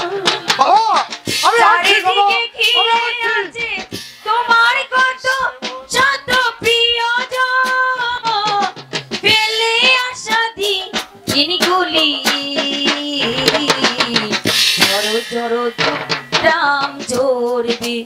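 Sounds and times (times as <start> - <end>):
woman singing: 0.0 - 0.5, 1.7 - 18.0
instrumental accompaniment: 0.0 - 18.0
percussion strokes: 0.0 - 18.0.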